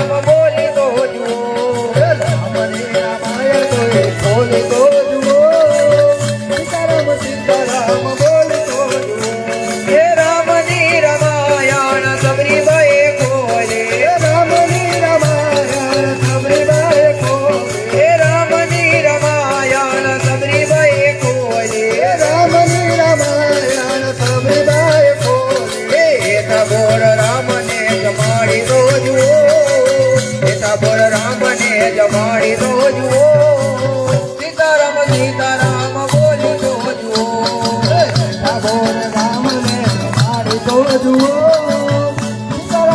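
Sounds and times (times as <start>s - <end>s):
devotional music with lead melody: 0.0s - 42.9s
shaken rattle percussion: 0.0s - 42.9s.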